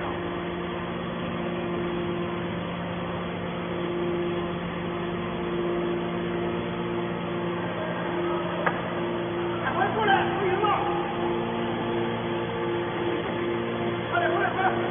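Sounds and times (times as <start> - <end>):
electric motor and pump humming: 0.0 - 14.9.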